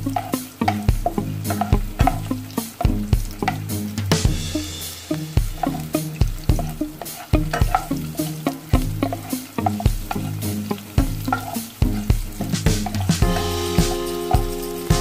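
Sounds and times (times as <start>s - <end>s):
garlic and onion sizzling in oil: 0.0s - 15.0s
spatula knocking and scraping pan: 0.0s - 15.0s.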